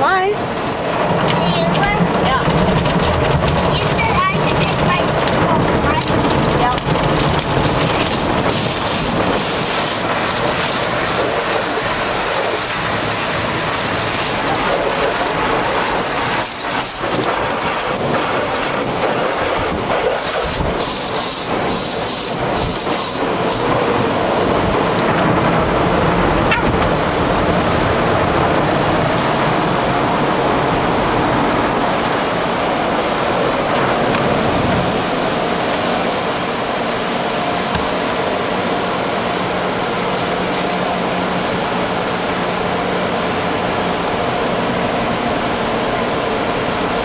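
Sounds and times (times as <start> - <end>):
car wash water rushing: 0.0 - 47.0
sharp water spraying hits: 0.1 - 43.6.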